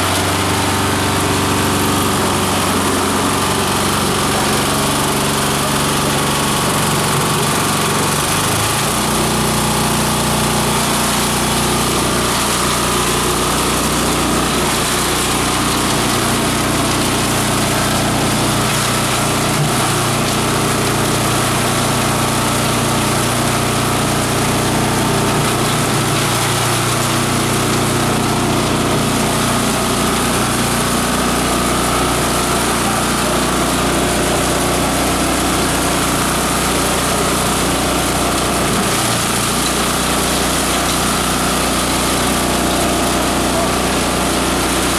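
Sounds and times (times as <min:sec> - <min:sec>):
shredder chopping dry leaves: 0:00.0 - 0:44.9.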